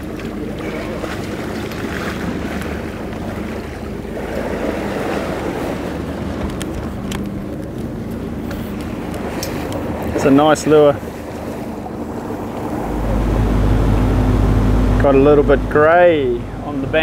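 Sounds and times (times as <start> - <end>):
boat engine running: 0.0 - 17.0
water rushing and splashing: 0.0 - 17.0
wind buffeting microphone: 0.0 - 17.0.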